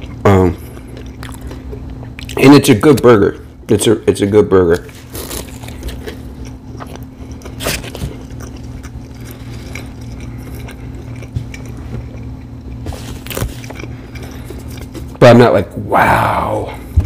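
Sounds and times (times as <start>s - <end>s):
close-mic chewing: 0.0s - 3.8s, 4.6s - 15.3s
steady low hum: 0.0s - 17.0s.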